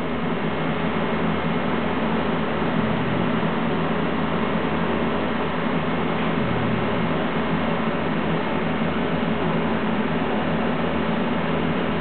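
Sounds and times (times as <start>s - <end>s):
fan-like hum: 0.0s - 12.0s.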